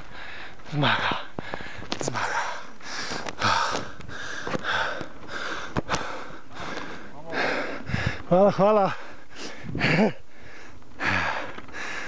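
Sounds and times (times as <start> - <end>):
man panting: 0.0 - 12.0.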